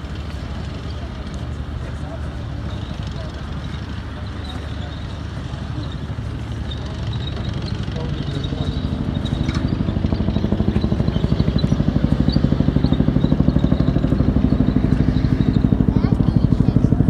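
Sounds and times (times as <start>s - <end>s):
engine running with pulsing beat: 0.0s - 17.0s.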